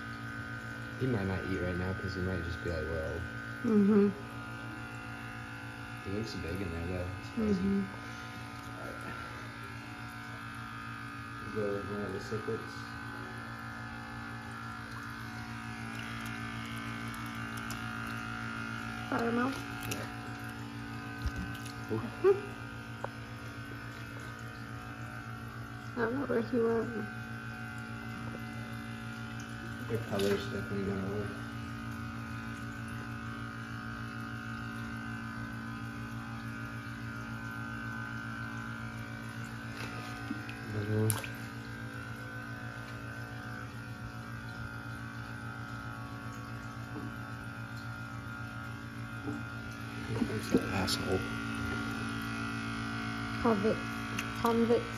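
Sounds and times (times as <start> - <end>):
pump motor humming: 0.0 - 54.9.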